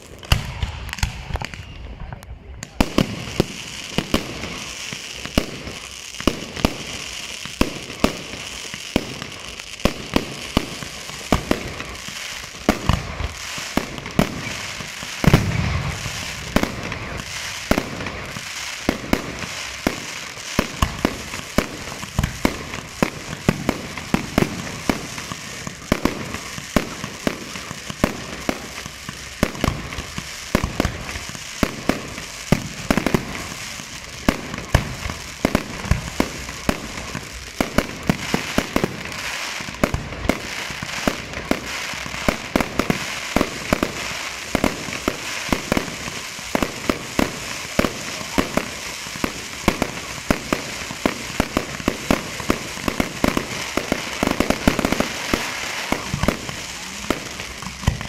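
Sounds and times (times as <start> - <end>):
aerial fireworks bursting: 0.0 - 58.0
fireworks crackle: 0.0 - 58.0.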